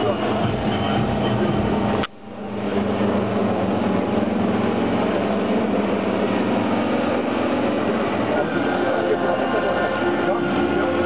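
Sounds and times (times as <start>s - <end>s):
model airplane engines droning: 0.0s - 11.0s.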